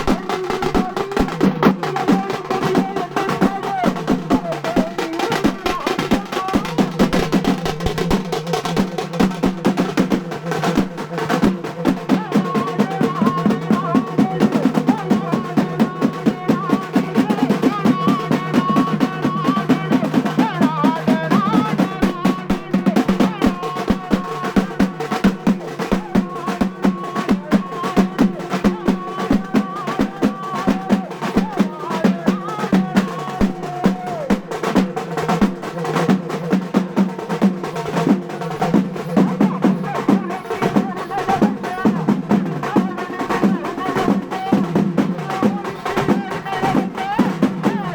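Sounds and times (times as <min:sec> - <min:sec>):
fast continuous drumming: 0:00.0 - 0:47.9.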